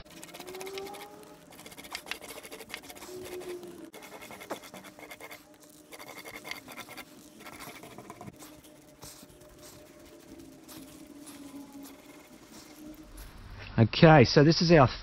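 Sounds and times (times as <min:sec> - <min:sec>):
paint roller scratching: 0:00.0 - 0:13.4.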